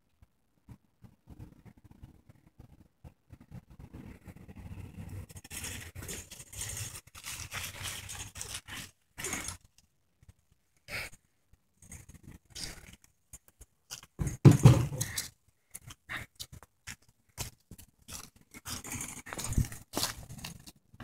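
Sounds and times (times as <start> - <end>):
bicycle tyre and frame rattle: 1.3 - 10.5, 11.8 - 15.9, 16.9 - 21.0.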